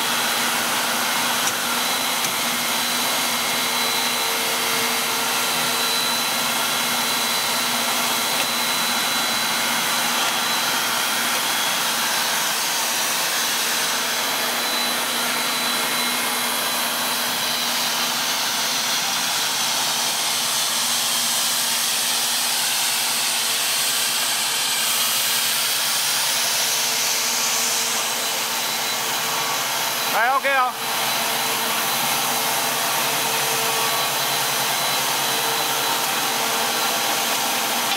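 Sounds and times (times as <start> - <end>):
machine whir and hiss: 0.0 - 37.9.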